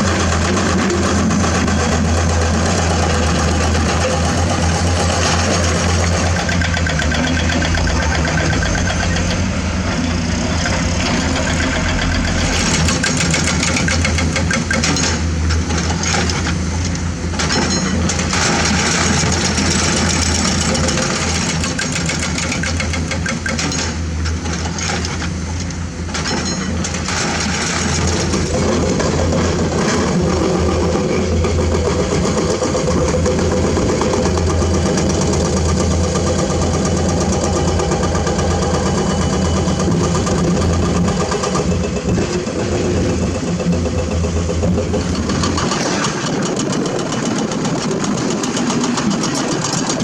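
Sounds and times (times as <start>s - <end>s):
diesel engines humming: 0.0s - 50.0s
noisy rattle: 0.0s - 50.0s.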